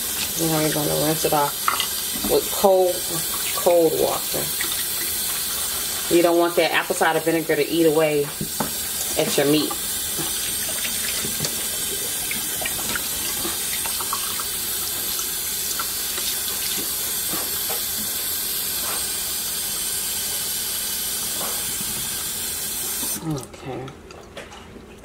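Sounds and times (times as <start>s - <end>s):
faucet running into sink: 0.0s - 23.5s.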